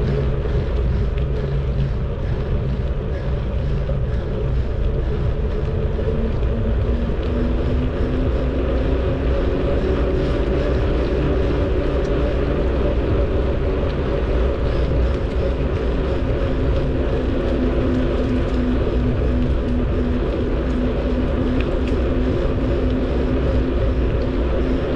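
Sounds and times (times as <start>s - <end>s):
bicycle road noise: 0.0s - 24.9s
constant low hum: 0.0s - 24.9s
wind rumble on microphone: 0.0s - 24.9s.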